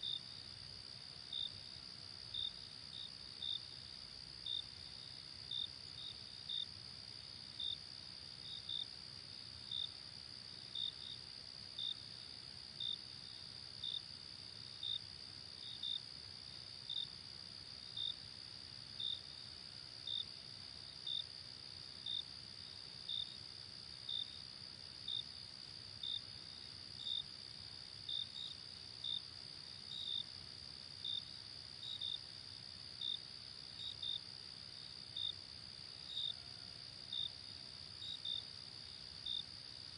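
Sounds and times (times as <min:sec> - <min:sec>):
loud cricket chirp: 0:00.0 - 0:39.9.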